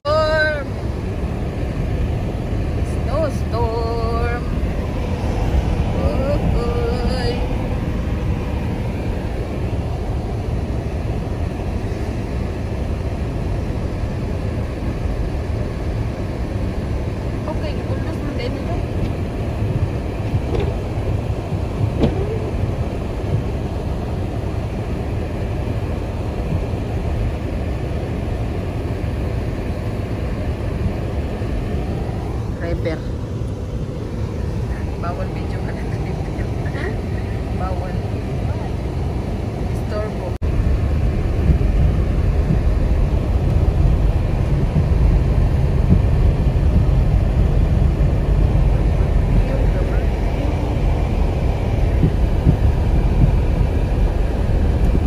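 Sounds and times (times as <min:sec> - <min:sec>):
vehicle rumble inside cabin: 0:00.0 - 0:55.0.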